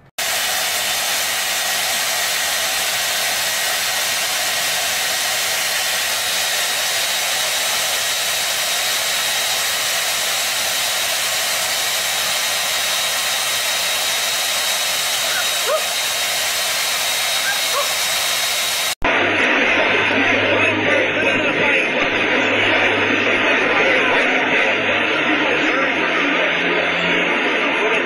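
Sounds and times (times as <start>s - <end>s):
hair dryer running: 0.0s - 28.0s.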